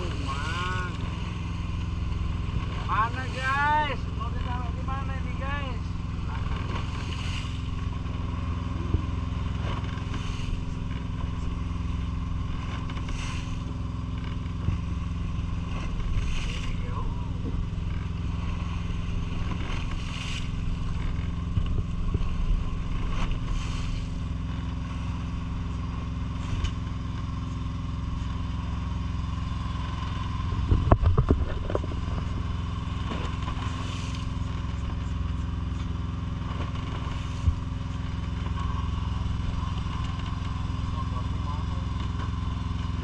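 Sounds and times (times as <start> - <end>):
boat engine running: 0.0 - 43.0
water washing at hull: 0.0 - 43.0.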